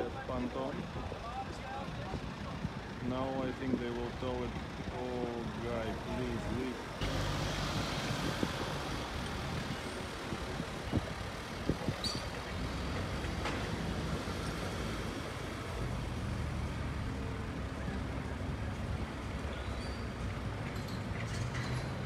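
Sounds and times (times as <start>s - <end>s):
engine running: 1.9s - 22.0s.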